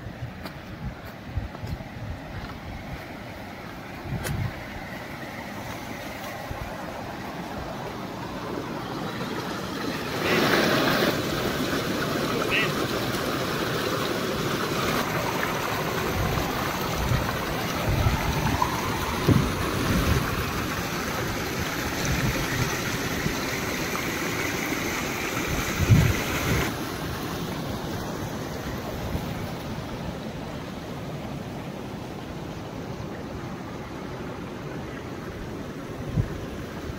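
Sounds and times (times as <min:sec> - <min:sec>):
stream water rushing over rocks: 0:00.0 - 0:36.9.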